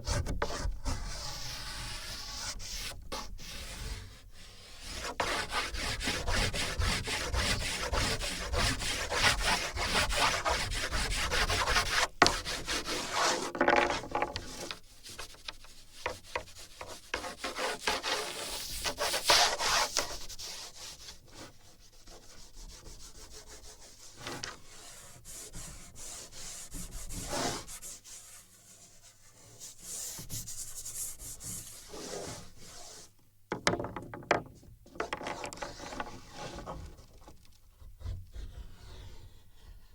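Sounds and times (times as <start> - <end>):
drawing strokes on wooden board: 0.0 - 33.1, 38.0 - 39.9.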